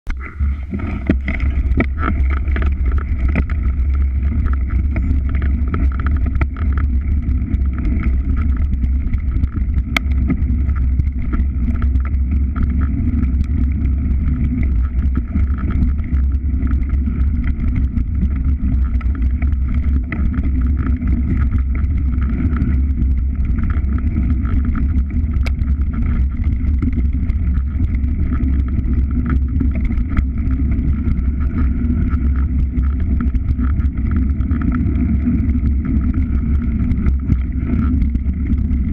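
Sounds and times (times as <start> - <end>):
moving vehicle drone: 0.0 - 38.9.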